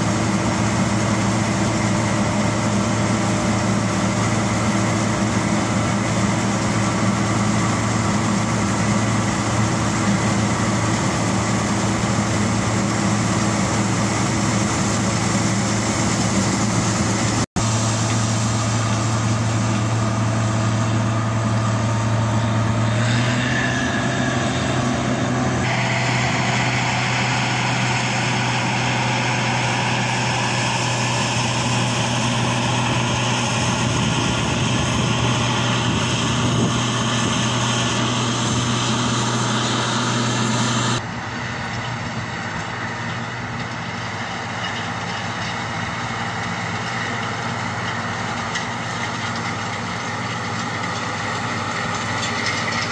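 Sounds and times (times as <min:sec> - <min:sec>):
harvester and tractor engines droning: 0:00.0 - 0:52.9.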